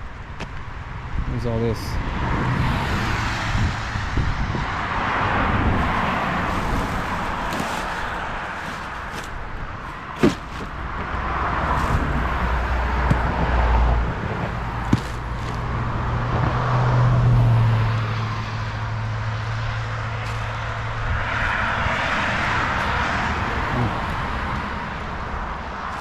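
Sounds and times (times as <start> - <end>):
cars passing on highway: 0.0 - 26.0.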